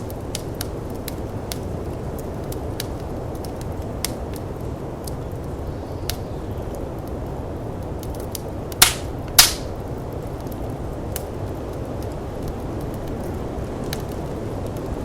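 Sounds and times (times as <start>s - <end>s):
loud sharp pops from fire: 0.0s - 7.2s, 7.8s - 14.9s
wood fire crackling: 0.0s - 15.0s.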